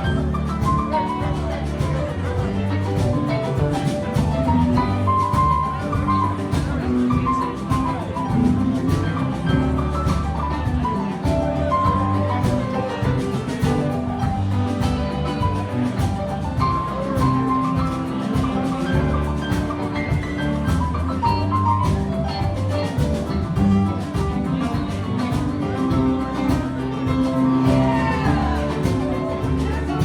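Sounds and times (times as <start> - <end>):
live band playing instrumental: 0.0 - 30.0.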